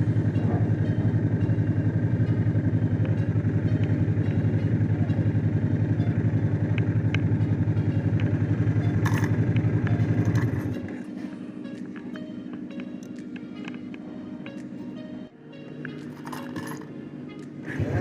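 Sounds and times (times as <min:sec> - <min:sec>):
motorcycle engine running: 0:00.0 - 0:14.7, 0:16.1 - 0:17.0, 0:17.6 - 0:18.0.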